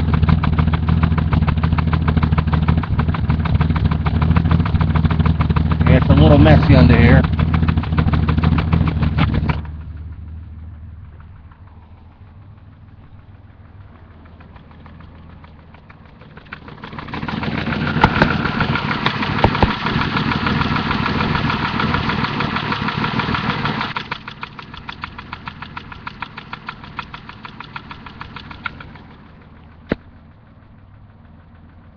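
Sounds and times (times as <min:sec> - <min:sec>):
car engine idling and revving: 0:00.0 - 0:31.9
engine knocking: 0:00.0 - 0:31.9.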